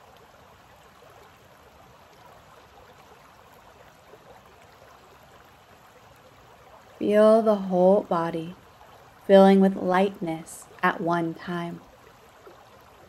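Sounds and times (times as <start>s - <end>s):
creek water flowing over rocks: 0.0s - 13.0s.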